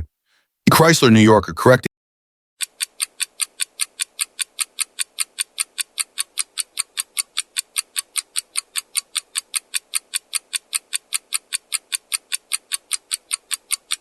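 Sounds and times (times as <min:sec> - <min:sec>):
clock ticking: 0:02.6 - 0:14.0.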